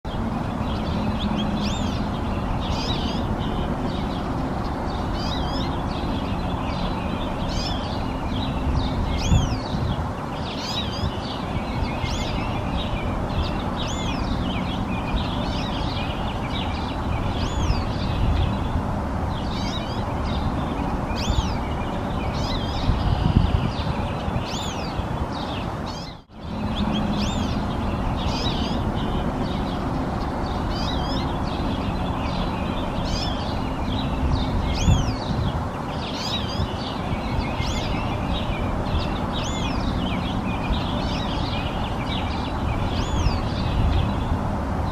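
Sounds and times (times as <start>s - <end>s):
finch singing: 0.1s - 44.9s.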